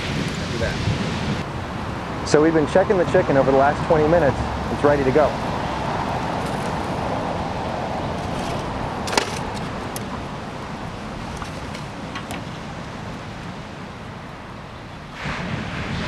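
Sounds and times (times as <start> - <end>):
rushing outdoor background: 0.0 - 16.0.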